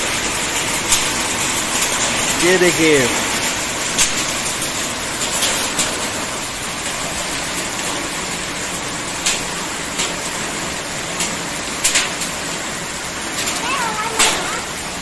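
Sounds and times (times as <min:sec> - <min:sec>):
hailstones clicking on hard surfaces: 0:00.0 - 0:15.0
heavy rain hissing: 0:00.0 - 0:15.0.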